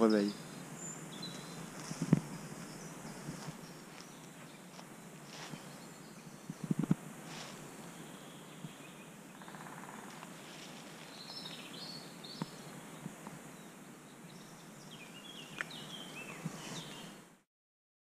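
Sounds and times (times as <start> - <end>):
birds chirping: 0.0 - 17.2
faint background hiss: 0.0 - 17.4.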